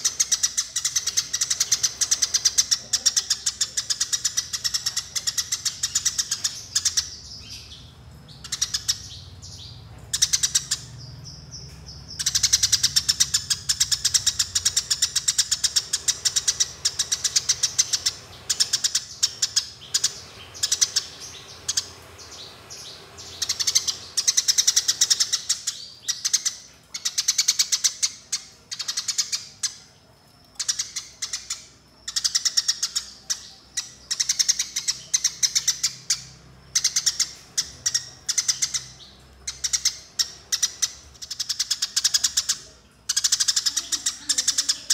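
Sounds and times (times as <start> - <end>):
sparrow chirping rapidly: 0.0 - 30.0, 30.6 - 44.9.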